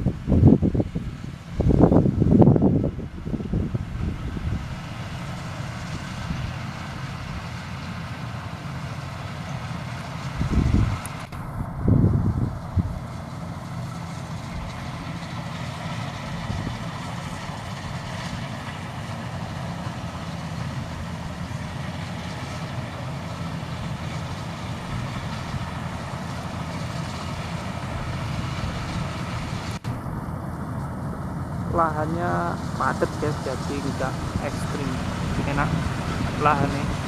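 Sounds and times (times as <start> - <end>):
combine harvester engine hum: 0.0 - 37.0.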